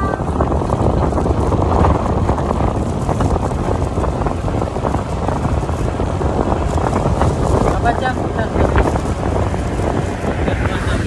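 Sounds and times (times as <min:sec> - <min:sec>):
motorcycle running: 0:00.0 - 0:11.0
road noise: 0:00.0 - 0:11.0
wind buffeting microphone: 0:00.0 - 0:11.0.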